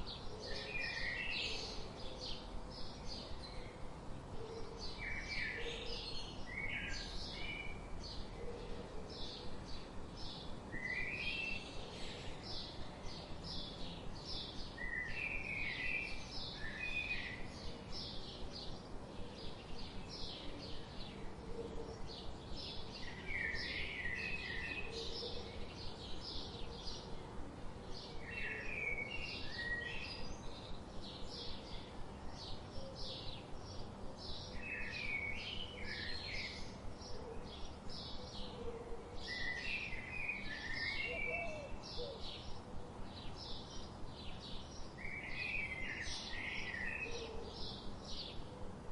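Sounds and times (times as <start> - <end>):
low background hiss: 0.0 - 48.9
songbirds chirping: 0.0 - 48.9.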